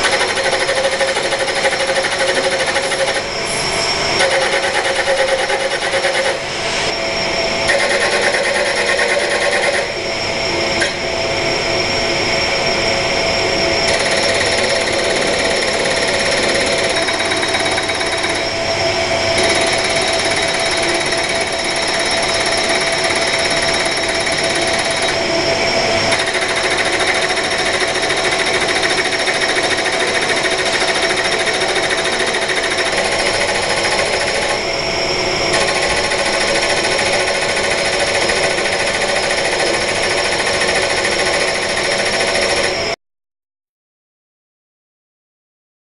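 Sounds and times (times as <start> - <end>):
rapid mechanical chatter: 0.0 - 6.5, 7.6 - 10.0, 13.8 - 43.0
steady motor whine: 0.0 - 42.9.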